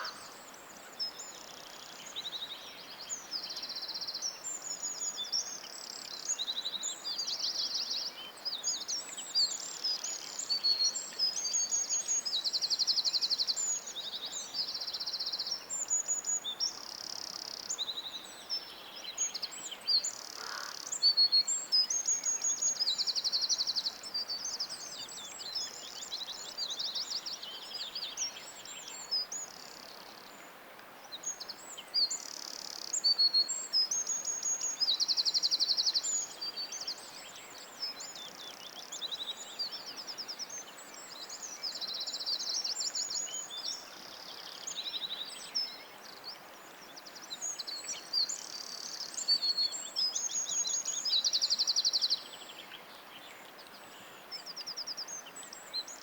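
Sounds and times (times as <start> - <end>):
faint background hiss: 0.0 - 56.0
songbirds singing: 0.0 - 56.0.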